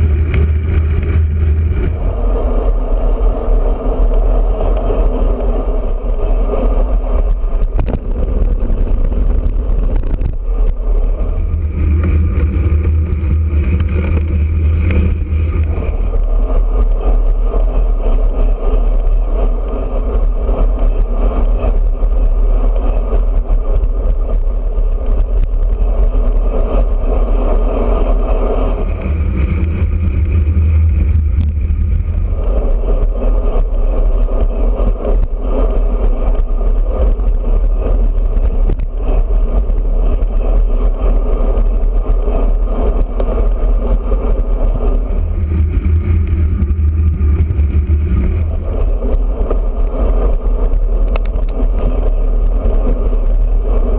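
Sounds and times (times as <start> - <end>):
wind rumble on microphone: 0.0 - 53.9.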